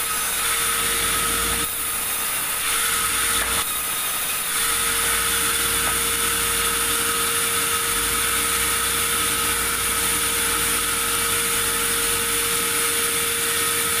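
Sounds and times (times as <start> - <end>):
saw machinery whining: 0.0 - 14.0.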